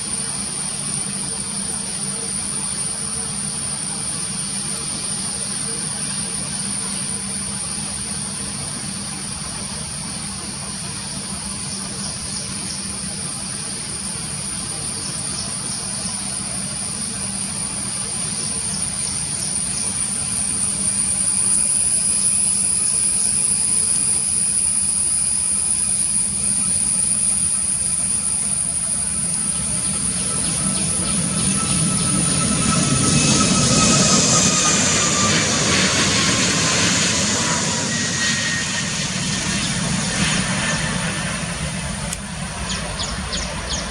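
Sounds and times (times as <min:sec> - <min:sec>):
jet engines rumbling at takeoff: 0:00.0 - 0:43.9.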